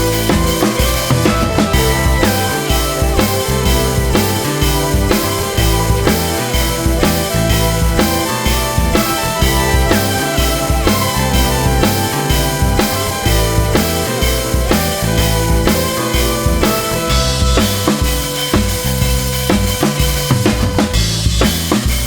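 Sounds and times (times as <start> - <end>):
sustained instrumental notes: 0.0 - 21.0
drum kit beat: 0.0 - 22.0.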